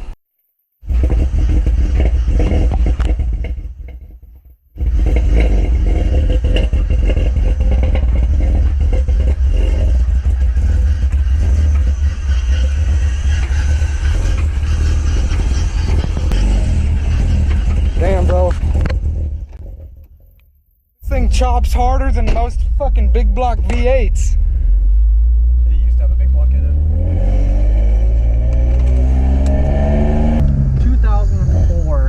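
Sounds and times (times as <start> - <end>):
car engine with choppy lope: 0.0 - 32.0.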